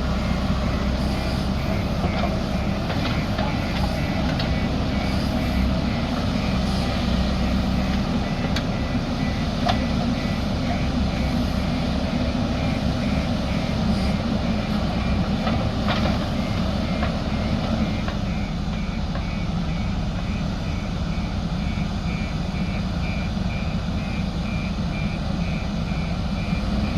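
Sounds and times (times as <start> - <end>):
diesel engine running: 0.0 - 26.9
reversing alarm beeping: 0.0 - 26.9.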